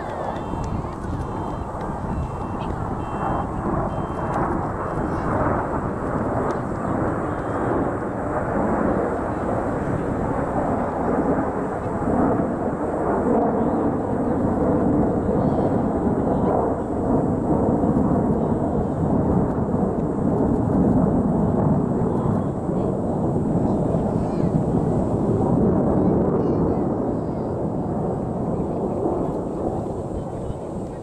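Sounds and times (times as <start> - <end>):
jet engines passing overhead: 0.0 - 31.0.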